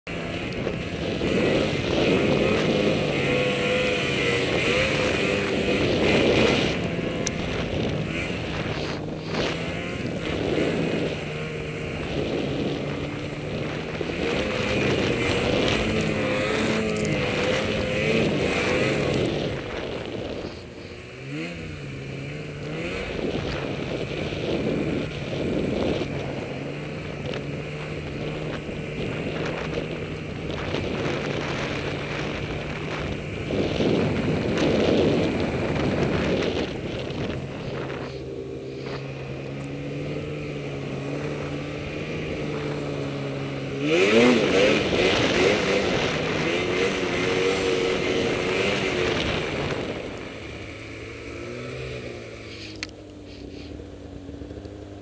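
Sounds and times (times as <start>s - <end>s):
snowmobile engine revving: 0.1s - 55.0s.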